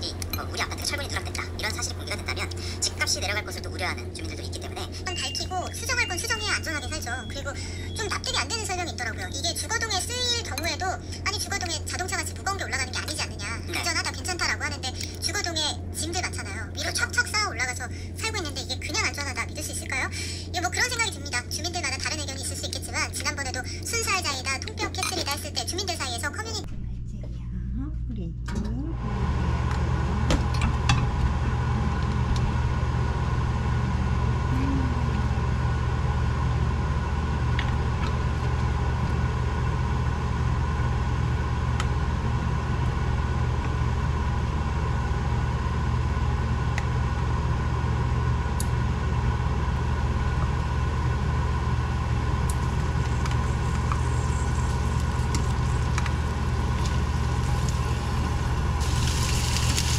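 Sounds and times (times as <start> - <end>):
exhaust fan humming: 0.0 - 59.9.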